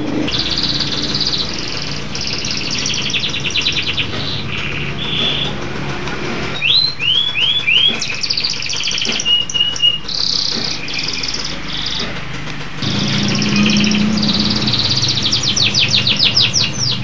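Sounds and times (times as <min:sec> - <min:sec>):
canary singing trills: 0:00.0 - 0:05.9, 0:06.5 - 0:12.1, 0:12.8 - 0:17.0.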